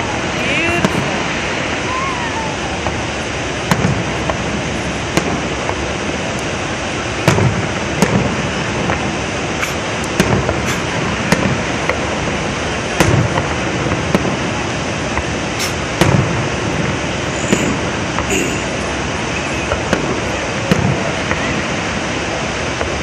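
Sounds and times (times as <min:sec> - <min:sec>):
distant fireworks bangs and booms: 0:00.0 - 0:23.0.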